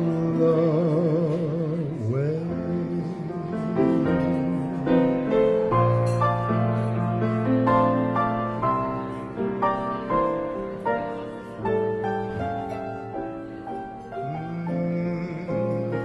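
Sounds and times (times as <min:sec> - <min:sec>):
slow piano ballad: 0:00.0 - 0:16.0.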